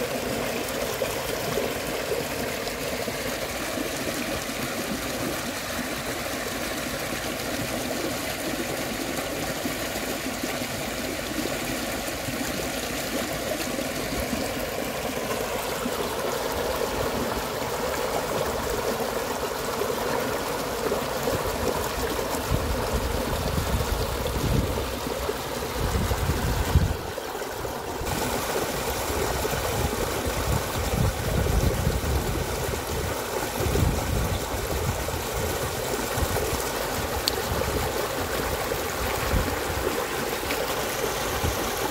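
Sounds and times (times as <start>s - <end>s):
stream rushing over cascade: 0.0s - 41.9s.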